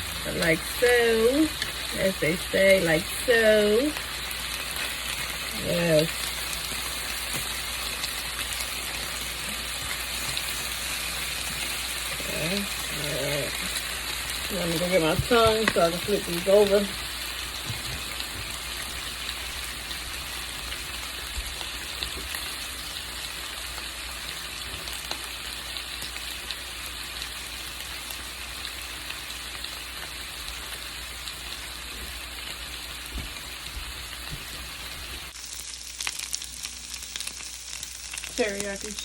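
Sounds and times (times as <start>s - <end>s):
chicken skewers sizzling: 0.0s - 39.0s.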